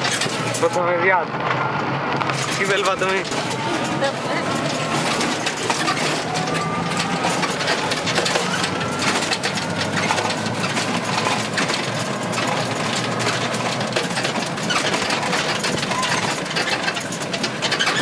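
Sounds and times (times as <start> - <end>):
irregular rattles: 0.0 - 1.0, 2.2 - 18.0
road noise: 0.0 - 18.0
small vehicle engine running: 0.0 - 18.0.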